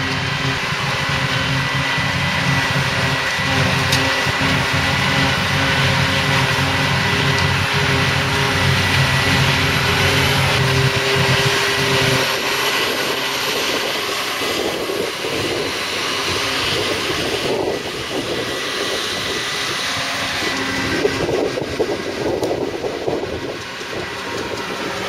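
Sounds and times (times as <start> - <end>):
diesel engines running: 0.0 - 25.0
steady high machine whine: 0.0 - 25.0.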